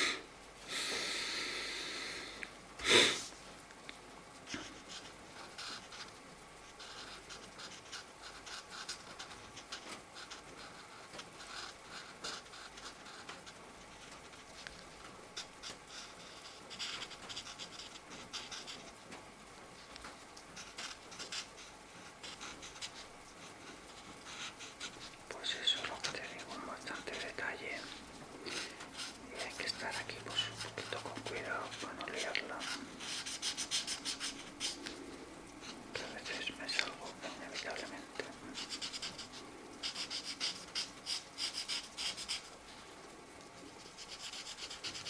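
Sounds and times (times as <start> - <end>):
markers scratching on paper: 4.5 - 19.1, 19.8 - 42.8, 43.6 - 45.0.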